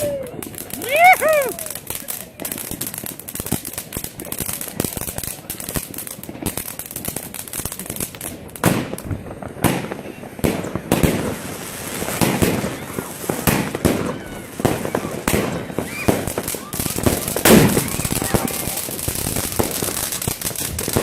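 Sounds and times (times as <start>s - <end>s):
fireworks crackling and banging: 0.0s - 21.0s
loud fireworks booms: 0.0s - 21.0s.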